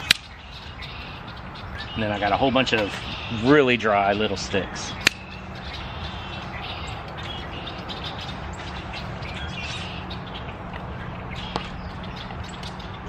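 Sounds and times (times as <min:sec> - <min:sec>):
small birds chirping: 0:00.0 - 0:13.0
steady outdoor hiss: 0:00.0 - 0:13.0.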